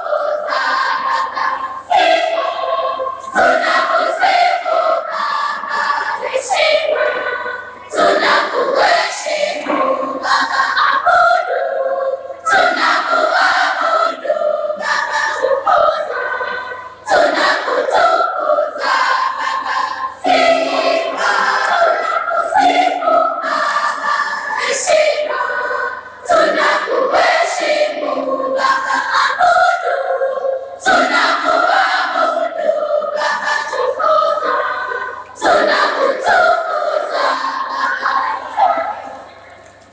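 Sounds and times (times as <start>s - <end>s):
girls' choir singing: 0.0s - 39.9s.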